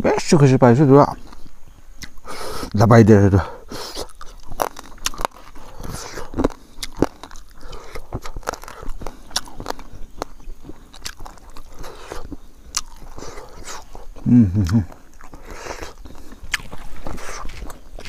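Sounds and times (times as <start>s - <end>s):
person chewing crunchy food: 1.2s - 2.8s, 3.4s - 18.0s
wet mouth clicks: 1.3s - 2.8s, 3.7s - 17.8s.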